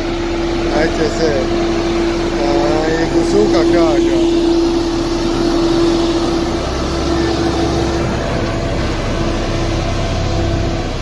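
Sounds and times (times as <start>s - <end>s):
road roller diesel engine running: 0.0s - 11.0s
steady hum: 0.0s - 11.0s.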